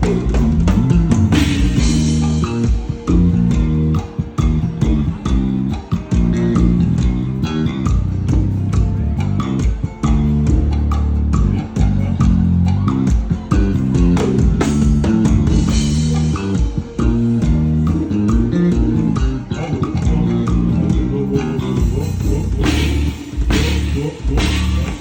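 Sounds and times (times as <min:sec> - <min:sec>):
electric bass guitar line: 0:00.0 - 0:25.0
guitar: 0:00.0 - 0:25.0.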